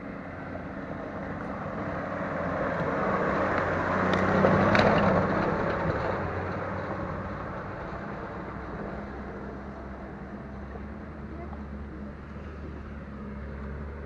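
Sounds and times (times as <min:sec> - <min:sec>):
car engine pulling uphill: 0:00.0 - 0:14.0.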